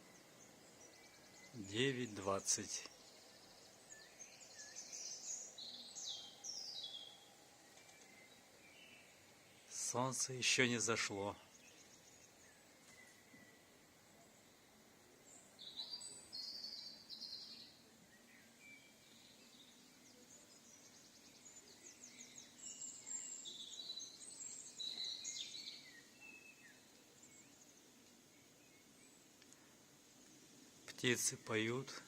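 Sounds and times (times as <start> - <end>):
faint steady background noise: 0.0 - 32.0
songbirds chirping and trilling: 0.0 - 32.0.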